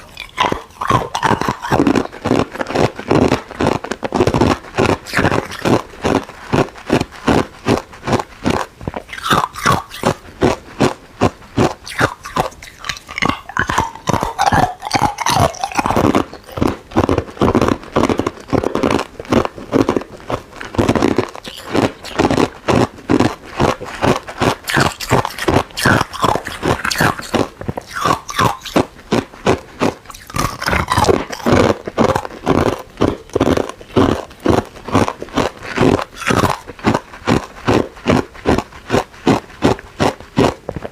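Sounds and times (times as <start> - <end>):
ice crunching while chewed: 0.0 - 40.9.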